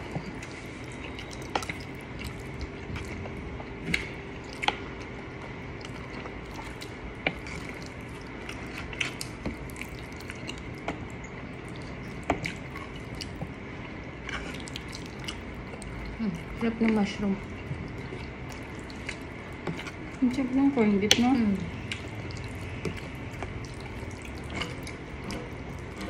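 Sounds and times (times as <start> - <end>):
chewing and smacking: 0.0 - 26.0
faint steady hum: 0.0 - 26.0.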